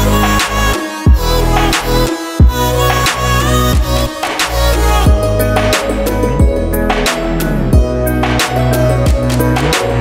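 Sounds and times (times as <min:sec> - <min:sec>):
music with deep bass beat: 0:00.0 - 0:10.0.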